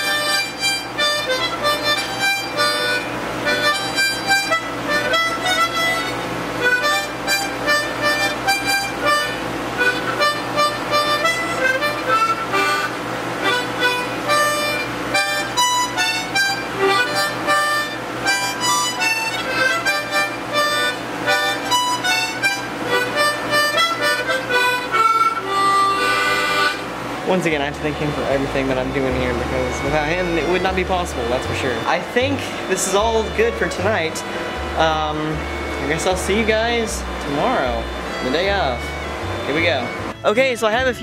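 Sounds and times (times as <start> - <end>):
harmonica playing a tune: 0.0 - 41.0.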